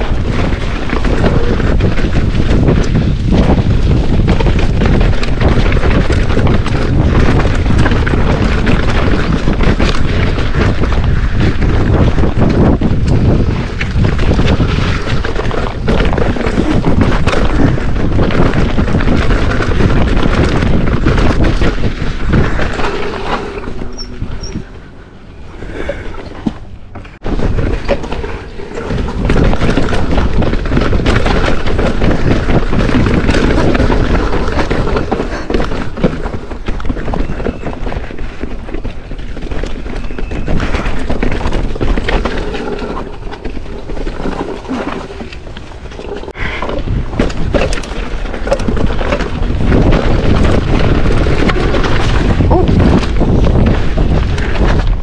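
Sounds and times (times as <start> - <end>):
mountain bike rattling and knocking: 0.0 - 55.0
tyre rumble: 0.0 - 55.0
wind buffeting microphone: 0.0 - 55.0.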